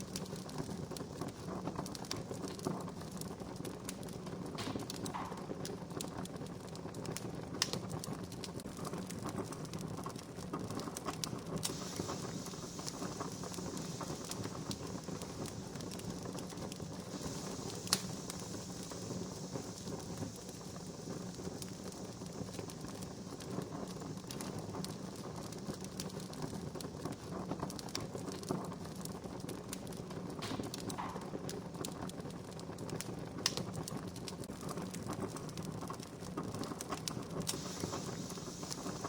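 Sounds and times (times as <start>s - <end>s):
campfire crackling: 0.0s - 39.0s
sharp fire pops: 0.0s - 39.0s.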